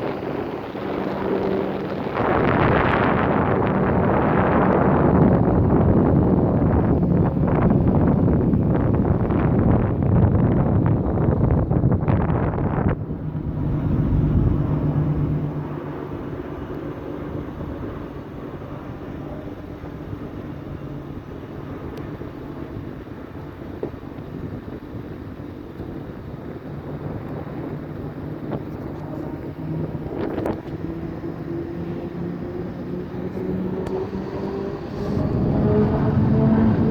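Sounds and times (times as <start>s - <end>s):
engine drone: 0.0s - 36.9s
wind buffeting microphone: 0.0s - 36.9s.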